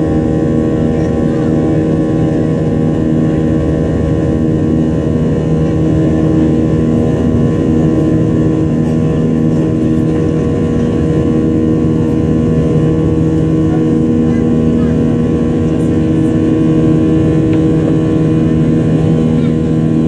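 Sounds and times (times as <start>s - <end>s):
jet engines heard from cabin: 0.0s - 20.0s.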